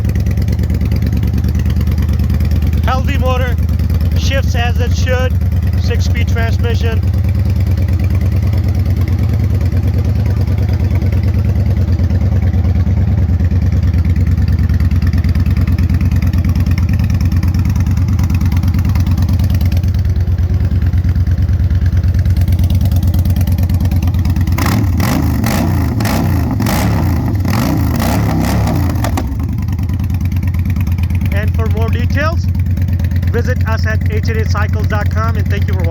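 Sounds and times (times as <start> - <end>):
motorcycle engine rumble: 0.0 - 35.9.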